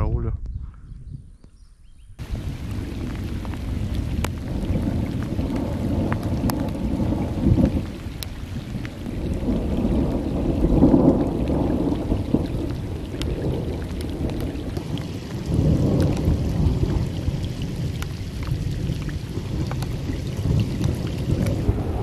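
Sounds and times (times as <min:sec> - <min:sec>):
wind buffeting microphone: 0:00.0 - 0:22.0
rain: 0:02.2 - 0:22.0
raindrop taps: 0:02.2 - 0:22.0.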